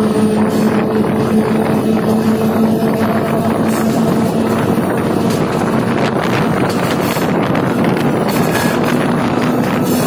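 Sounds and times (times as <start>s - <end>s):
constant rushing noise: 0.0s - 10.0s
locomotive engine drone: 0.0s - 10.0s.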